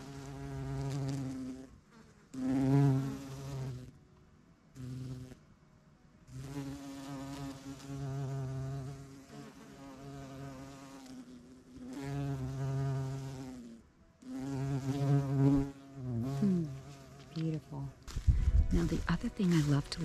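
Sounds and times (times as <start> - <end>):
bumblebee buzzing: 0.0 - 3.9, 4.8 - 5.4, 6.3 - 20.0.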